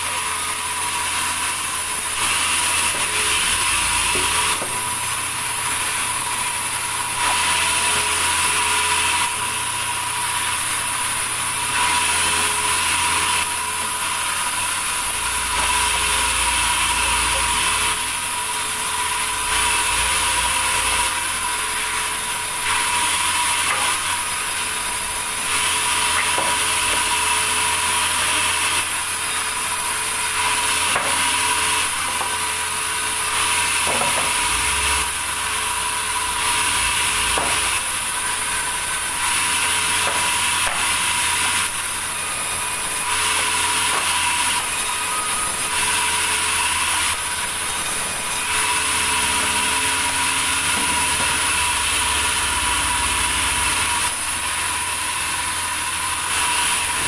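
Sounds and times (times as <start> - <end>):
band saw cutting timber: 0.0 - 57.0.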